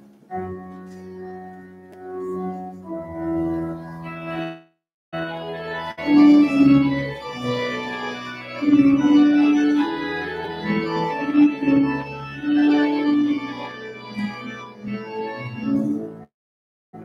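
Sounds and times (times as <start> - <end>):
organ playing slow chords: 0.2 - 4.6, 5.2 - 16.3.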